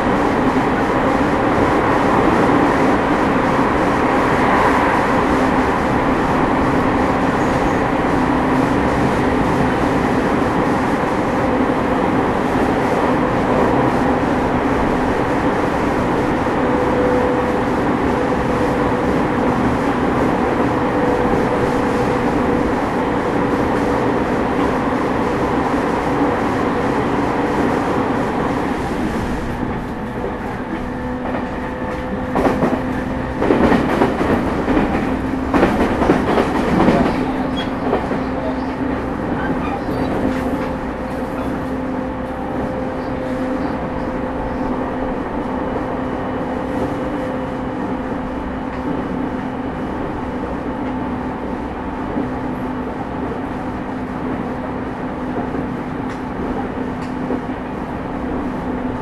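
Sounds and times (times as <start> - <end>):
train rumble and hum: 0.0 - 59.0.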